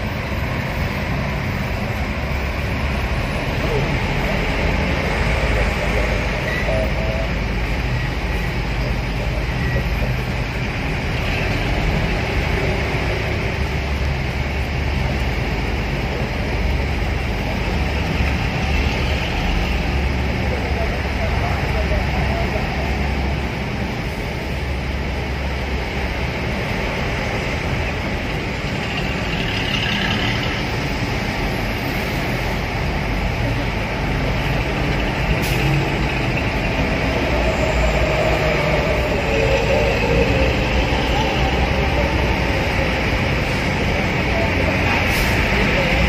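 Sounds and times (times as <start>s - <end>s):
bus exhaust droning: 0.0s - 46.0s
road rumble: 0.0s - 46.0s.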